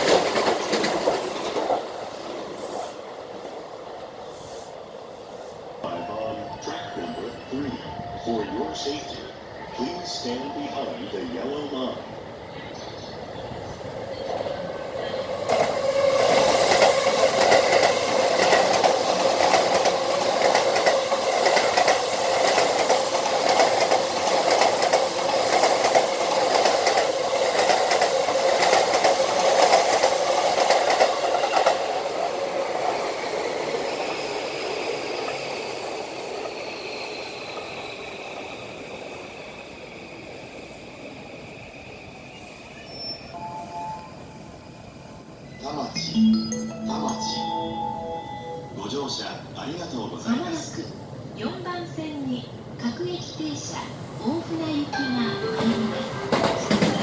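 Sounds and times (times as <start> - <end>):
electric train rumble and wheel clatter: 0.0 - 57.0.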